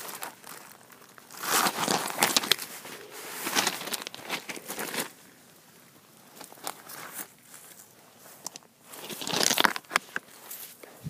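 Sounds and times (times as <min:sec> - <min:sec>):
snow and ice crunching: 0:00.0 - 0:11.0.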